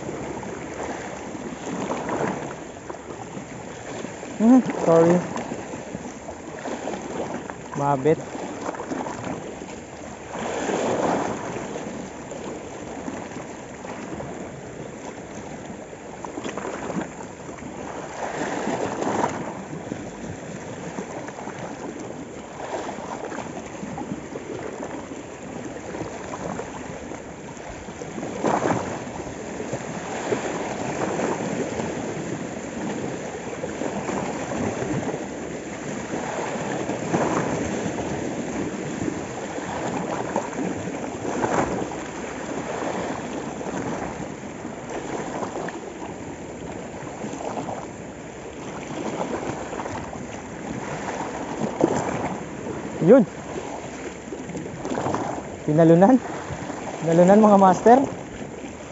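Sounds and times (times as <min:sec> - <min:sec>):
waves splashing over rocks: 0:00.0 - 0:58.9.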